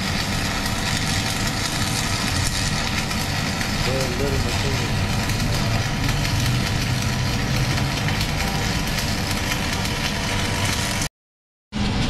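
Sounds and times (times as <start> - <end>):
welding arc crackling: 0.0 - 11.1.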